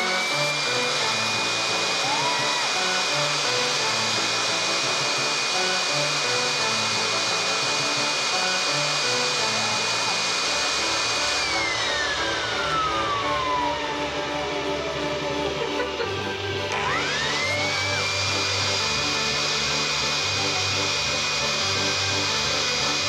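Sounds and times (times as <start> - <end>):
air blower running: 0.0 - 23.0
background music: 0.0 - 23.0.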